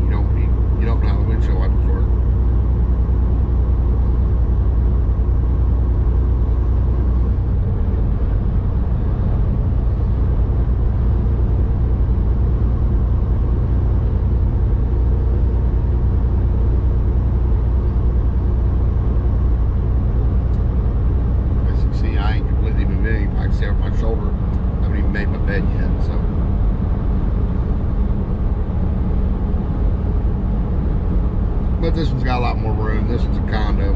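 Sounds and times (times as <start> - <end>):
diesel truck engine humming: 0.0 - 33.9.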